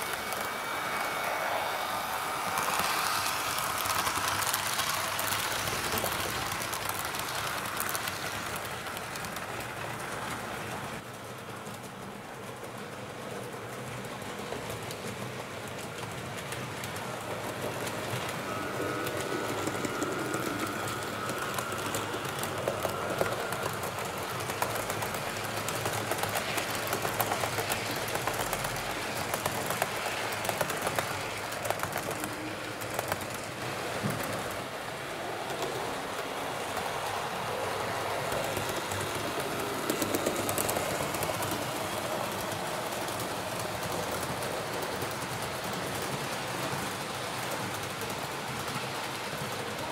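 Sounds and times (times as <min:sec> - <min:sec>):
model train rolling hum: 0:00.0 - 0:49.9
wheels clicking on rails: 0:00.0 - 0:49.9.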